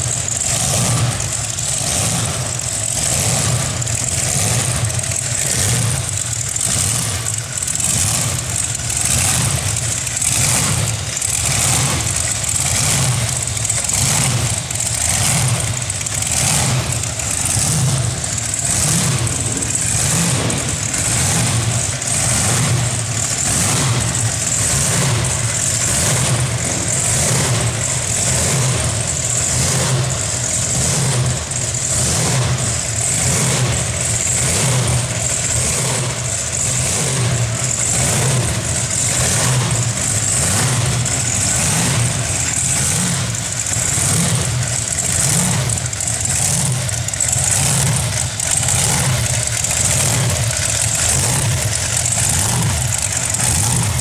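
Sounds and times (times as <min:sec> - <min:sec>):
engines at a lumpy idle: 0:00.0 - 0:54.0.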